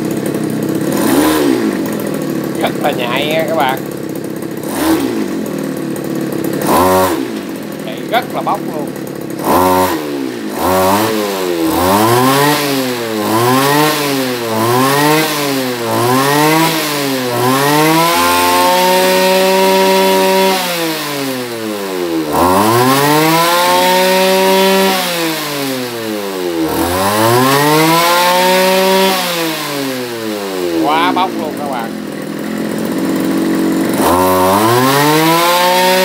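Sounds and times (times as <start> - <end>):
brush cutter engine revving: 0.0 - 36.0.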